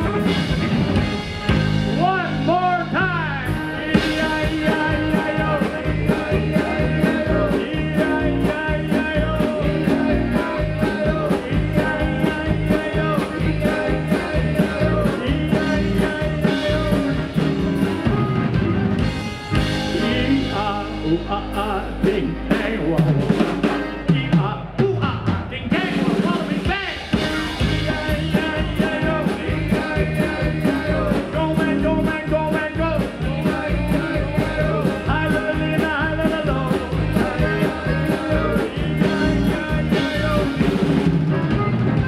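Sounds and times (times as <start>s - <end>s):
drum beat: 0.0s - 2.9s, 3.8s - 20.7s, 22.6s - 42.0s
polka band playing: 0.0s - 42.0s
man singing: 2.0s - 17.8s, 19.7s - 41.1s.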